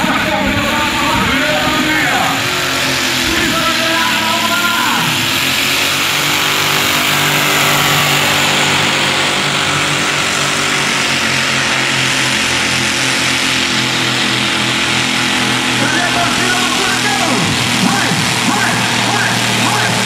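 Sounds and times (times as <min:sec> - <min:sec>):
tractor engine running loud: 0:00.0 - 0:20.0.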